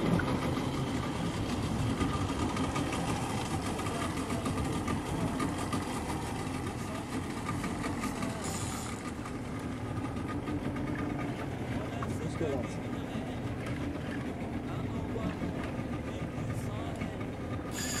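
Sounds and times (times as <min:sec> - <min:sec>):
outboard motor idling: 0:00.0 - 0:18.0.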